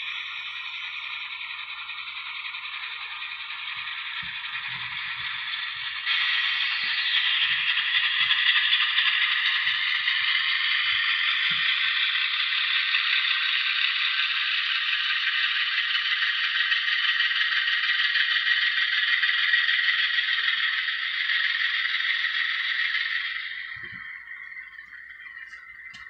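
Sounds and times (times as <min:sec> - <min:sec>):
model train rattling on track: 0:00.0 - 0:26.0.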